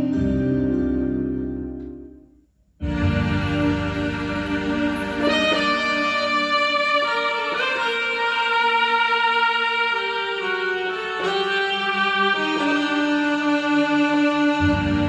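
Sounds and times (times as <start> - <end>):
synthesizer slow melody: 0.0 - 15.0.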